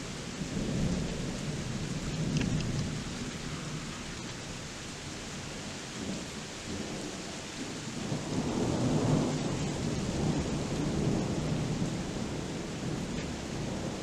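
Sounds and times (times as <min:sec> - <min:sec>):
thunder rumbling: 0:00.0 - 0:07.2, 0:07.9 - 0:14.0
steady rain: 0:00.0 - 0:14.0.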